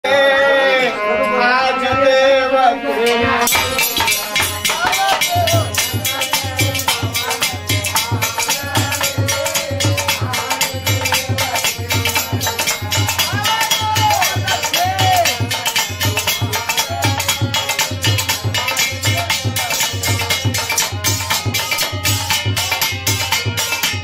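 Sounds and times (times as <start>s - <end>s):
man singing: 0.0s - 22.7s
harmonium: 0.0s - 24.0s
metallic rattling percussion: 3.1s - 24.0s.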